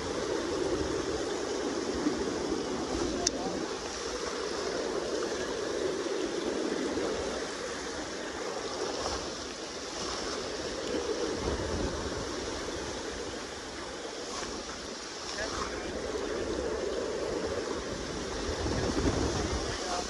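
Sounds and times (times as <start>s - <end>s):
river current rushing: 0.0s - 20.0s
wind rumble on microphone: 0.0s - 20.0s.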